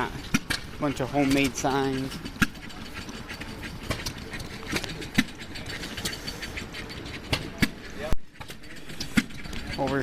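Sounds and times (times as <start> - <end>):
hit-and-miss engines running: 0.0 - 10.0
sharp mechanical clicks and knocks: 0.0 - 10.0.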